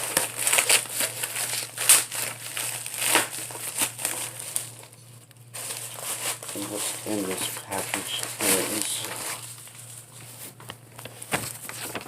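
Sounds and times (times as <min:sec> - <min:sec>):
faint low hum: 0:00.0 - 0:12.0
packaging crinkling: 0:00.0 - 0:12.0.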